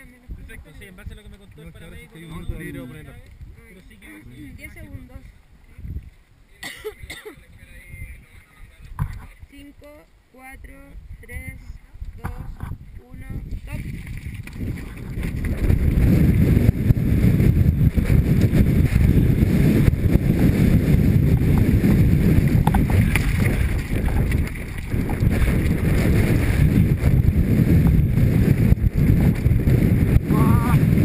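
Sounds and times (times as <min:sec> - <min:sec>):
wind on microphone: 0:00.0 - 0:06.4, 0:07.0 - 0:31.0.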